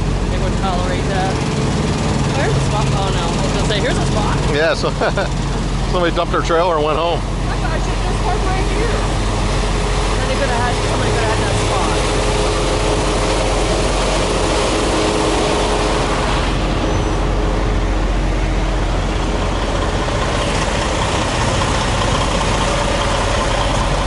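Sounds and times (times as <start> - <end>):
diesel truck engines running: 0.0 - 24.0.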